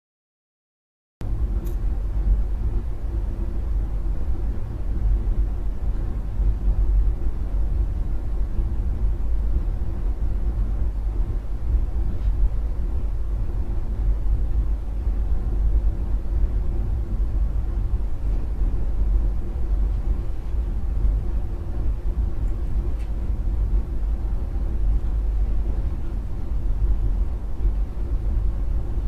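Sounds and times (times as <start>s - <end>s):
steady low rumbling: 1.2s - 29.0s.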